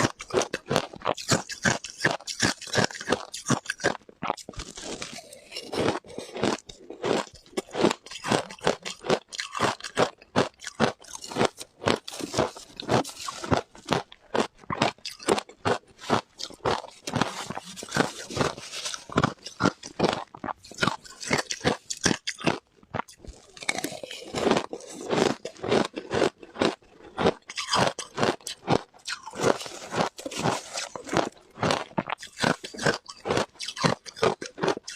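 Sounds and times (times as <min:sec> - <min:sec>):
ice being chewed crunching: 0:00.0 - 0:34.9.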